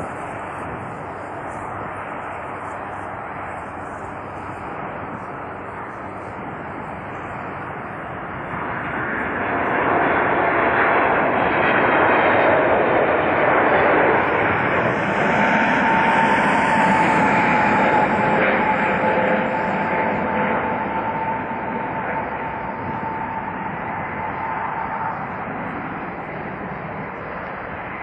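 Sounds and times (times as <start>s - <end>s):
jet engine rush: 0.0s - 28.0s
steady jet whine: 0.0s - 28.0s.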